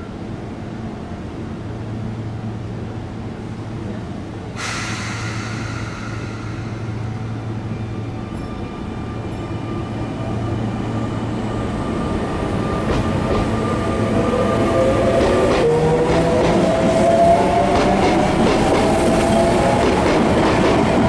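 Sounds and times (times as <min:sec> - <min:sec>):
electric train rumbling with whine: 0:00.0 - 0:21.0.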